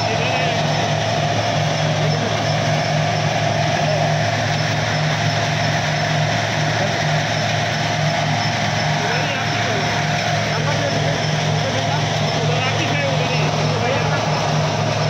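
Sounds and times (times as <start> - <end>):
stone crusher machinery drone: 0.0 - 15.0.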